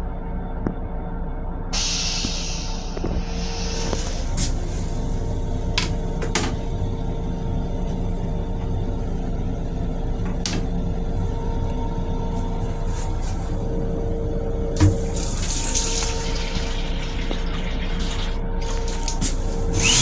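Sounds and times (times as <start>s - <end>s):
railcar rumble and hum: 0.0s - 20.0s.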